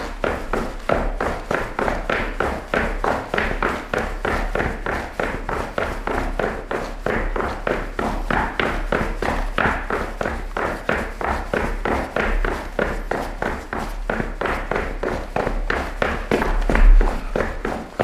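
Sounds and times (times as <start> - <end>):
cleated shoes running on hard floor: 0.0 - 18.0.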